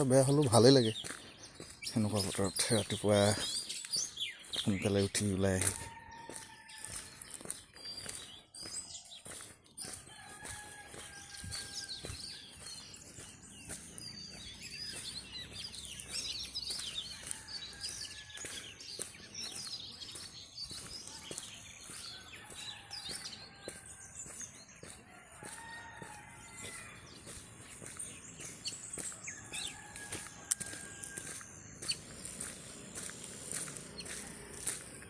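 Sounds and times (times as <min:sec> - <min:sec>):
birds chirping and calling: 0:00.0 - 0:35.0.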